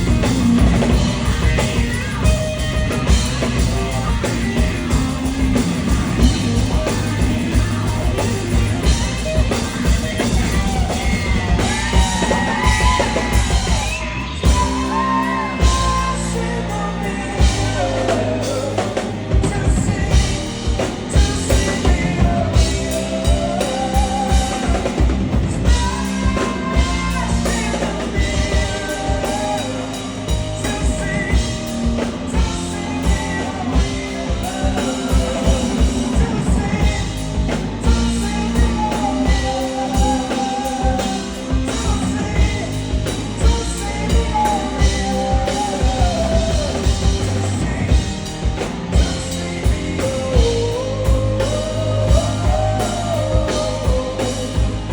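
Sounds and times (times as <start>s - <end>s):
bass guitar: 0.0s - 54.9s
drum kit beat: 0.0s - 54.9s
electric guitar: 0.0s - 54.9s
person singing: 0.0s - 54.9s.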